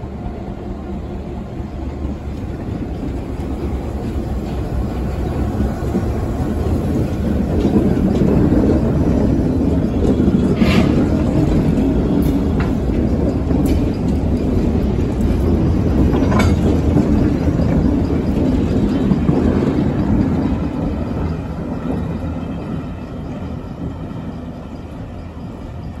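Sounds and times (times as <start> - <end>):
diesel locomotives rumbling past: 0.0 - 26.0.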